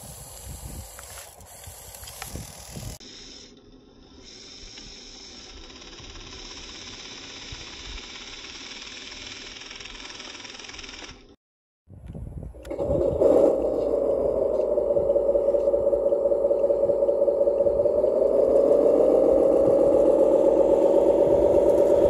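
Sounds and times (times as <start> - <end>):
electric motors and gears whirring: 0.0 - 11.4, 12.1 - 22.0.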